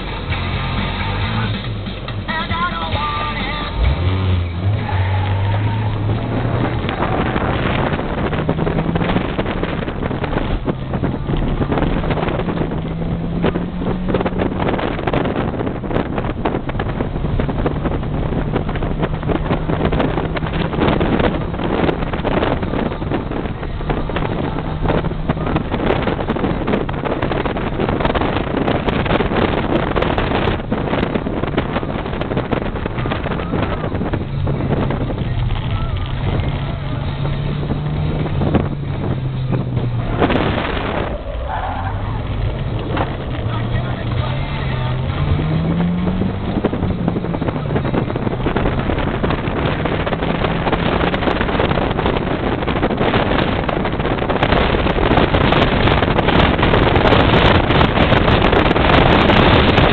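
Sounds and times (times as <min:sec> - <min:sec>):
car engine and loud exhaust: 0:00.0 - 0:59.9
wind noise: 0:00.0 - 0:59.9.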